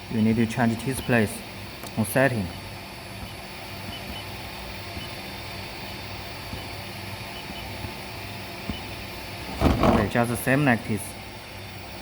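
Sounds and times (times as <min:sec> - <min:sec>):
electrical hum and fan noise: 0:00.0 - 0:12.0.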